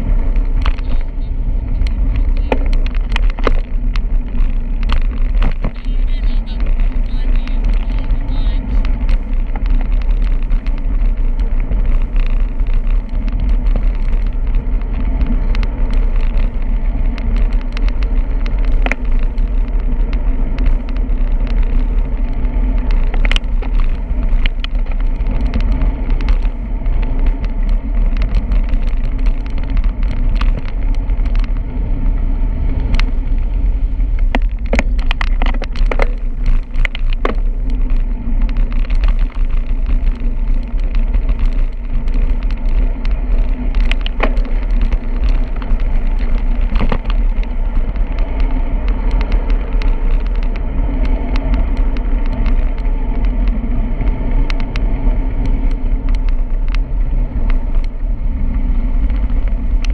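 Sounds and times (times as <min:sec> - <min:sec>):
bicycle clicks and rattles: 0:00.0 - 0:59.9
bicycle road rumble: 0:00.0 - 0:59.9
wind noise: 0:00.0 - 0:59.9.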